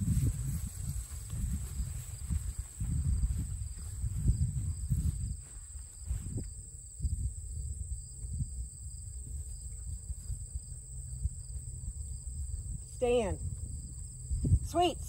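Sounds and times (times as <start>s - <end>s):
insects droning: 0.0s - 15.0s
wind buffeting microphone: 0.0s - 15.0s.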